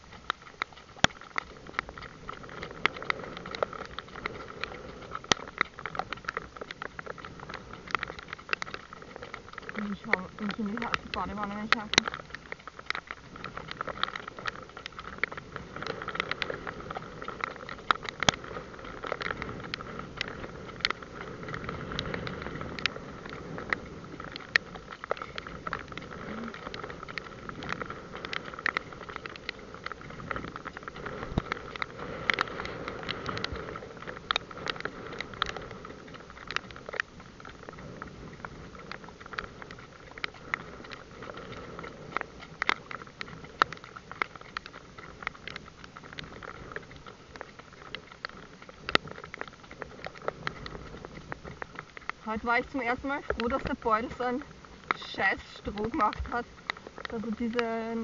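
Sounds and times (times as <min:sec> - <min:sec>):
hooves on wet road: 0:00.0 - 0:58.0
hooves splashing: 0:00.0 - 0:58.0.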